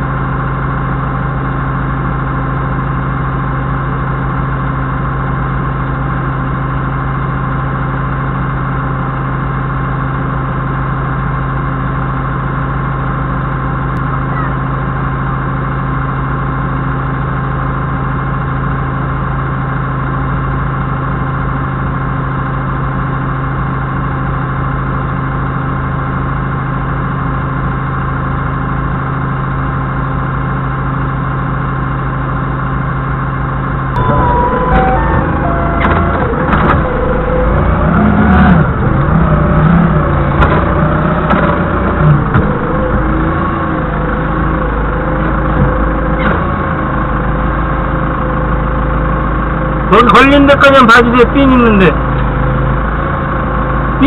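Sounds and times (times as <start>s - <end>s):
forklift engine idling and revving: 0.0s - 54.0s.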